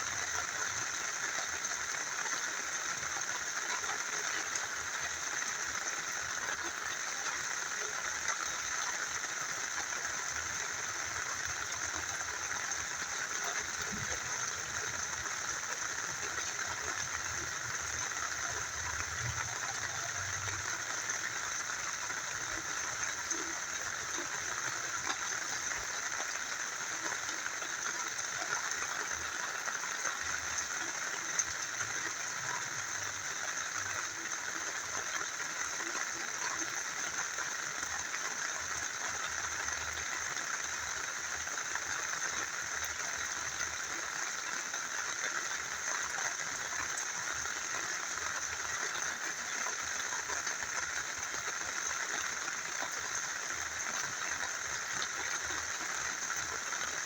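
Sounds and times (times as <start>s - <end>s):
faint drips and ticks: 0.0s - 57.0s
rain falling: 0.0s - 57.0s
small river flowing: 0.0s - 57.0s.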